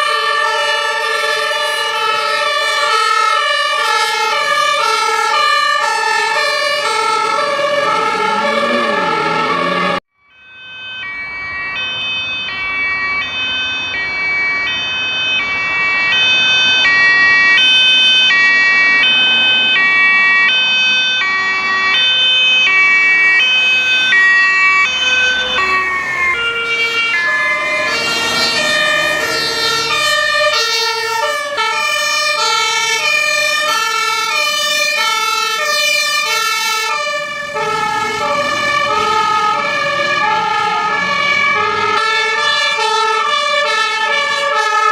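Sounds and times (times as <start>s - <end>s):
fire engine two-tone siren: 0.0s - 44.9s.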